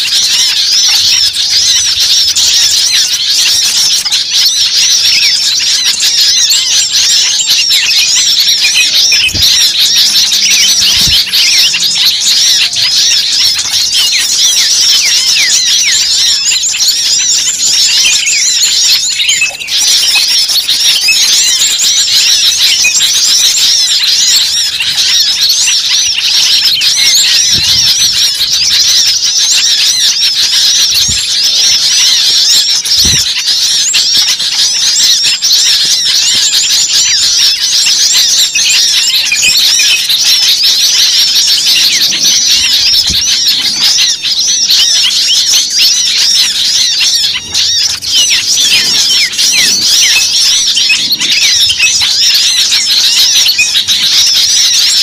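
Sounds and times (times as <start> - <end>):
many small birds chirping: 0.0 - 55.0.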